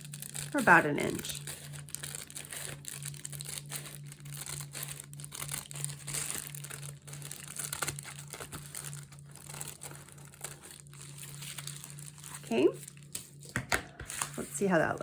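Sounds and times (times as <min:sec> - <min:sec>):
scissors cutting envelope: 0:00.0 - 0:14.9
envelope crinkling: 0:00.0 - 0:15.0.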